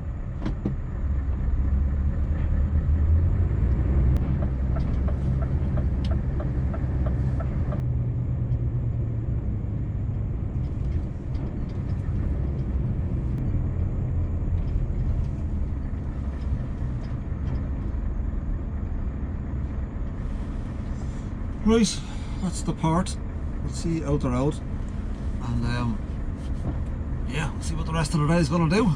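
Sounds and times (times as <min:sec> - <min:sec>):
truck engine rumbling: 0:00.0 - 0:28.9.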